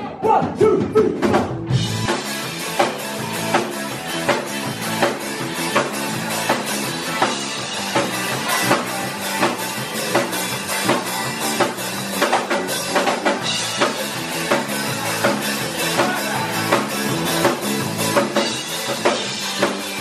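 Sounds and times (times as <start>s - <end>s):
bass guitar: 0.0s - 20.0s
drum kit beat: 0.0s - 20.0s
electric guitars: 1.2s - 20.0s.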